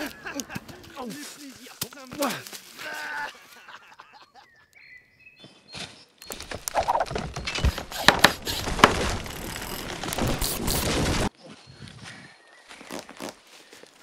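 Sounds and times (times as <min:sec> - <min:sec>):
leaves and twigs crackling underfoot: 0:00.0 - 0:03.8, 0:05.4 - 0:14.0.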